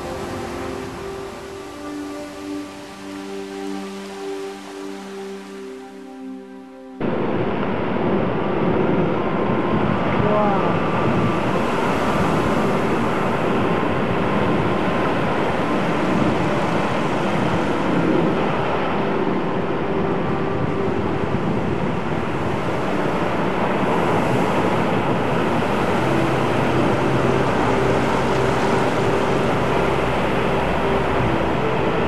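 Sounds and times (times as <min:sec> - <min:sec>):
ocean surf washing over rocks: 0:00.0 - 0:05.6, 0:07.7 - 0:32.0.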